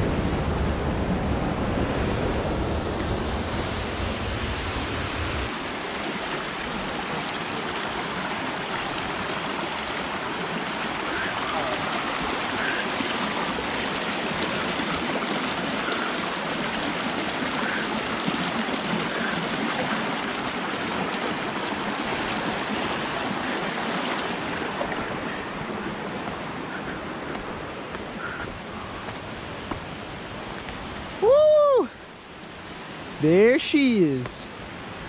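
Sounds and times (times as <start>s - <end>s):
water rushing over rocks: 0.0s - 35.0s.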